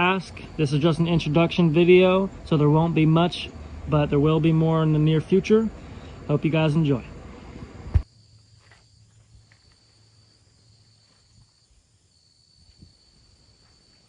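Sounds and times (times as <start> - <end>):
insect buzz like crickets: 0.0 - 14.0.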